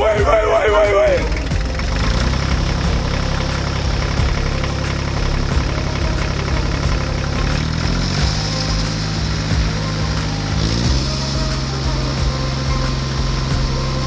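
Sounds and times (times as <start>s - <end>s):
engine humming with faint knocks: 1.0s - 14.0s.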